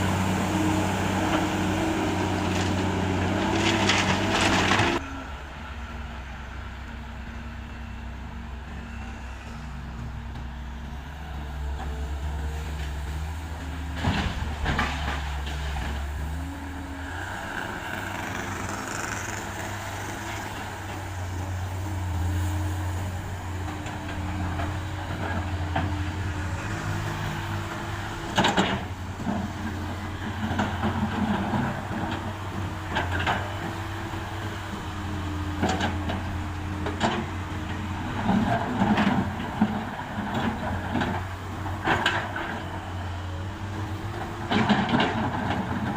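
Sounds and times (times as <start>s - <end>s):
excavator diesel engine working: 0.0s - 45.9s.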